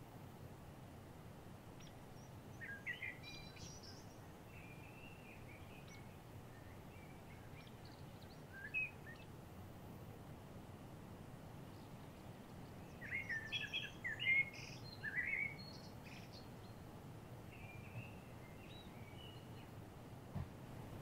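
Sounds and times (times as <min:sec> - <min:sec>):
faint outdoor hiss: 0:00.0 - 0:21.0
songbirds chirping and warbling: 0:01.5 - 0:21.0.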